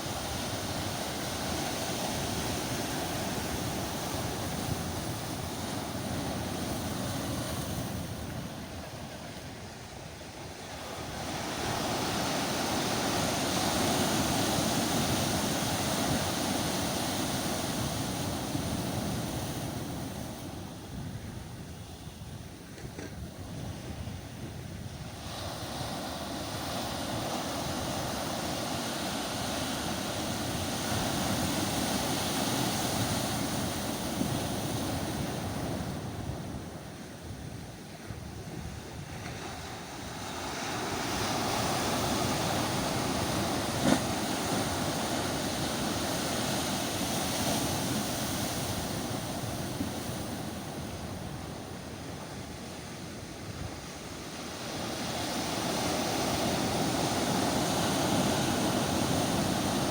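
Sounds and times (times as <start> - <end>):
sea waves washing on shore: 0.0 - 59.9.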